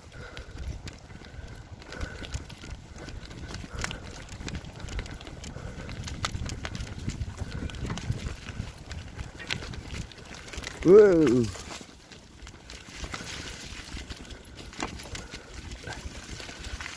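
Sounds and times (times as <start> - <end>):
leaves and twigs crackling: 0.0 - 16.9
tyres rolling on dirt path: 0.0 - 16.9.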